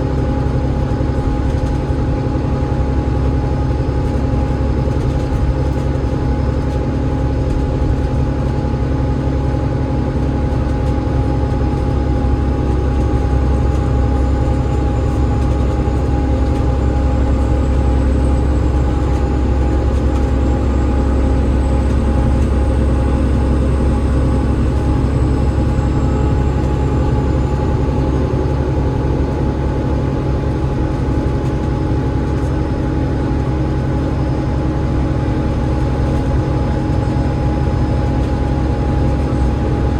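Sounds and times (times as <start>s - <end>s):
bus engine whine and rumble: 0.0s - 39.9s.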